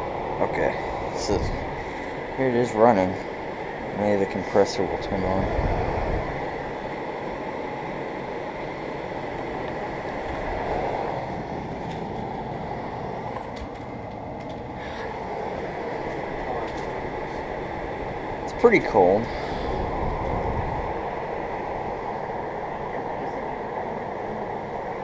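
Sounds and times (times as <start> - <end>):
air conditioner fan rush: 0.0 - 25.0
faint high whine: 0.0 - 25.0.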